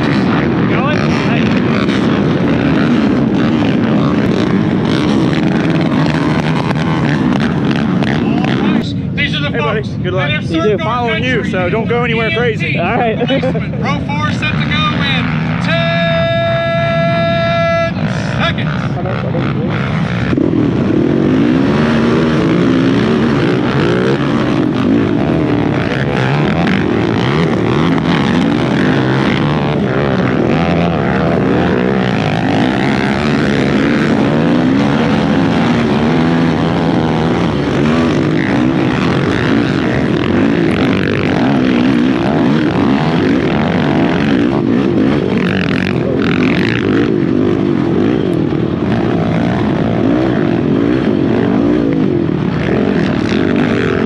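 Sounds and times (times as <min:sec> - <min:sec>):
quad engine revving hard: 0:00.0 - 0:08.8, 0:14.4 - 0:54.0
other racing quad engines: 0:00.0 - 0:54.0.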